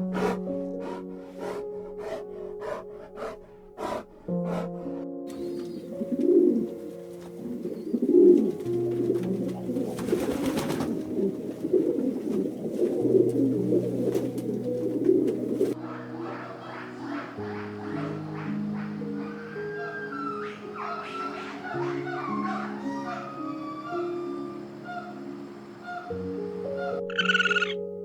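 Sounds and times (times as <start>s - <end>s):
pigeons cooing: 0.0s - 27.8s
music of sustained tones: 0.0s - 28.0s.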